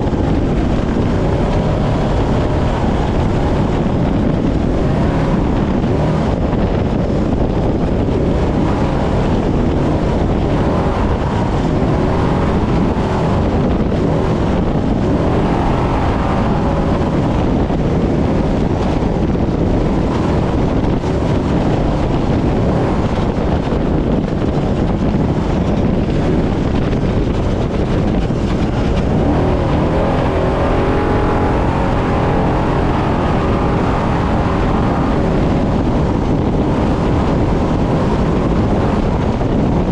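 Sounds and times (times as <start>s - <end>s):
truck engine and road noise: 0.0s - 39.9s
wind on microphone: 0.0s - 39.9s.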